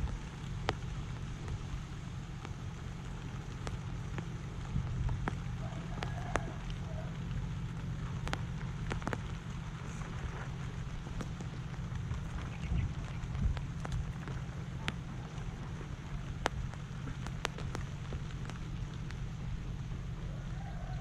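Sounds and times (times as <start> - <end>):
raindrops ticking: 0.0 - 21.0
wind rumble on microphone: 0.0 - 21.0.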